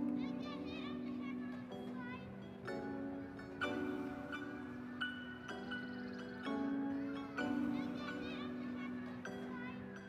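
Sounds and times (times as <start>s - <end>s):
melody of sustained notes: 1.8s - 10.0s.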